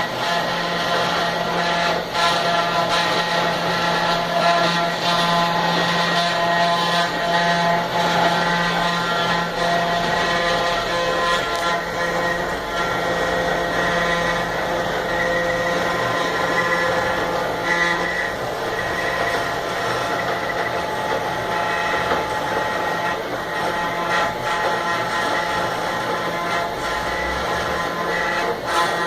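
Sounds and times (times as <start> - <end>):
router cutting wood: 0.0 - 29.0
router spindle whine: 0.0 - 29.0.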